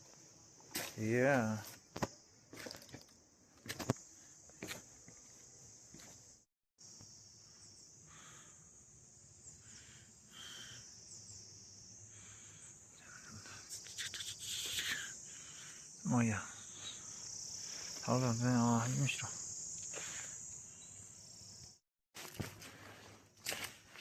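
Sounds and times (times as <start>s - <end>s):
insects trilling: 0.0s - 21.8s.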